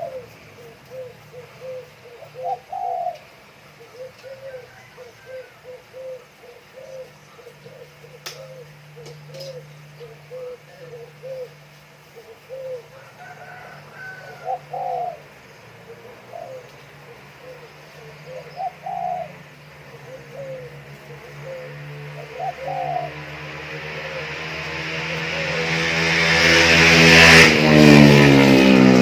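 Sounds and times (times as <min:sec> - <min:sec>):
doves cooing: 0:00.0 - 0:25.6.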